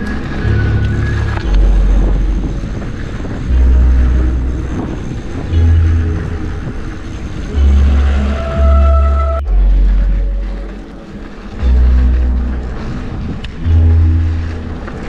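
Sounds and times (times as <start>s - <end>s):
music with deep bass line: 0.0s - 15.0s
steady rushing noise: 0.0s - 15.0s.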